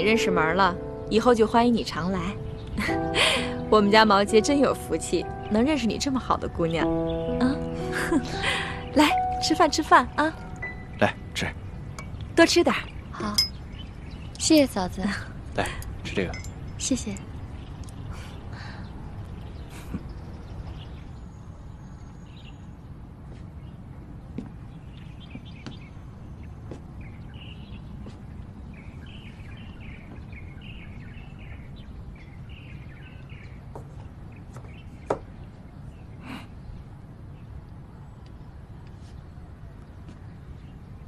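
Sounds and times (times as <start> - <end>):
outdoor background noise: 0.0 - 41.0
small birds chirping: 0.0 - 41.0.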